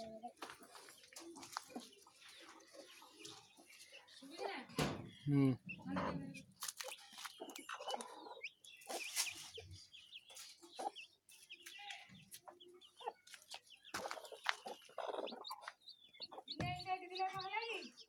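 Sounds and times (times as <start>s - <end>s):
chickens clucking: 0.0s - 18.0s
chicks peeping: 0.0s - 18.0s.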